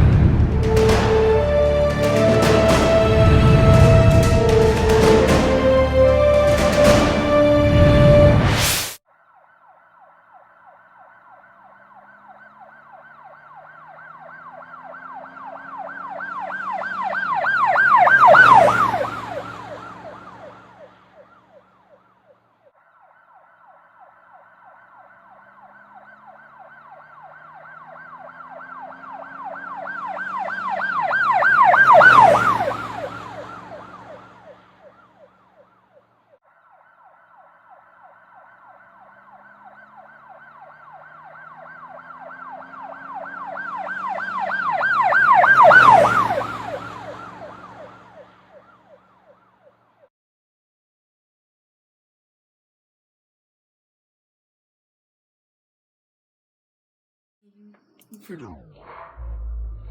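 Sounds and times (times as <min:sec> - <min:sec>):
emergency siren wailing: 0:00.0 - 0:08.6, 0:09.2 - 0:50.1, 0:57.6 - 0:59.9.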